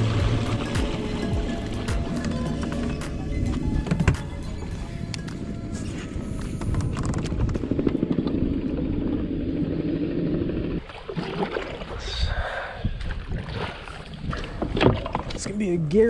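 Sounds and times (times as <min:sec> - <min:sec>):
kayak drive low drone: 0:00.0 - 0:16.0.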